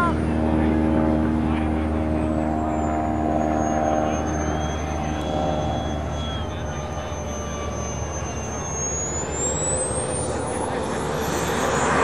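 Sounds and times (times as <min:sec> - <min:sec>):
electric ducted fan whining: 0:00.0 - 0:12.0.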